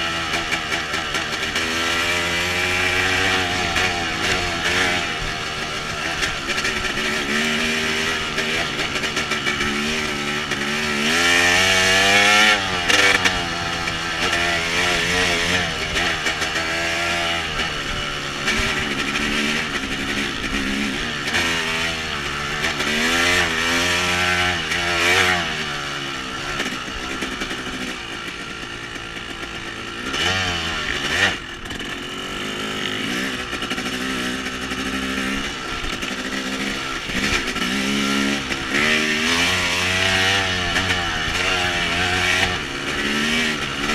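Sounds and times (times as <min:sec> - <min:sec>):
off-road vehicle engines revving: 0:00.0 - 0:43.9.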